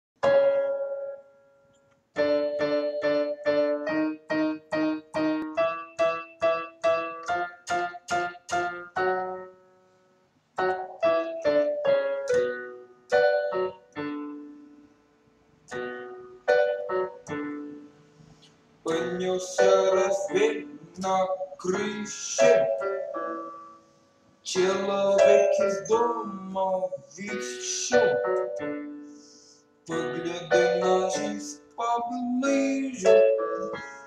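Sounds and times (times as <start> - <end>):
digital piano chords: 0.2 - 34.0.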